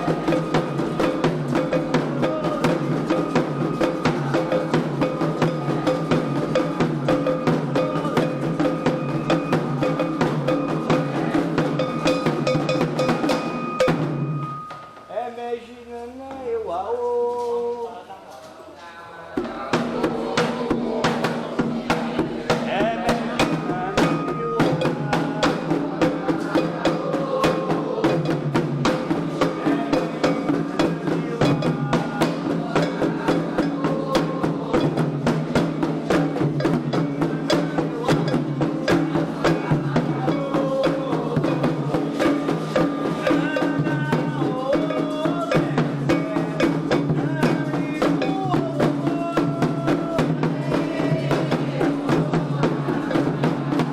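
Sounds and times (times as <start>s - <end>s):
bell beating a rhythm: 0.0s - 15.2s, 19.4s - 53.9s
hand drums: 0.0s - 15.2s, 19.3s - 53.9s
voices singing a chant: 0.0s - 53.9s.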